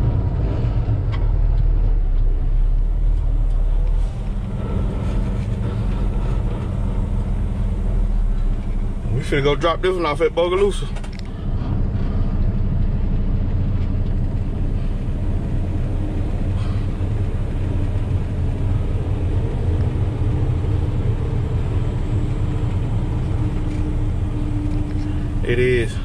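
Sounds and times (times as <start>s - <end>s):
truck diesel engine rumbling: 0.0s - 26.0s.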